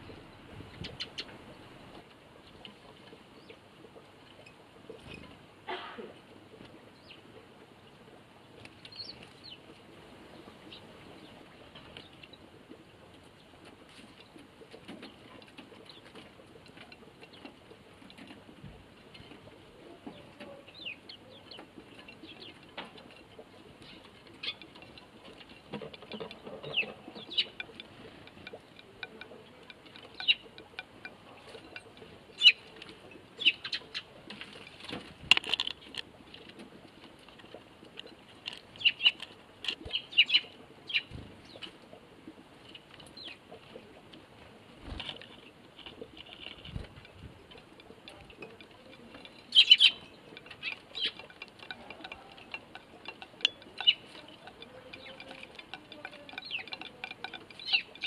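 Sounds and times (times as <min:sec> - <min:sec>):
sparrows chirping: 0:00.0 - 0:05.4, 0:06.9 - 0:18.3, 0:19.0 - 0:34.9, 0:38.0 - 0:41.8, 0:42.6 - 0:43.8, 0:44.8 - 0:58.0.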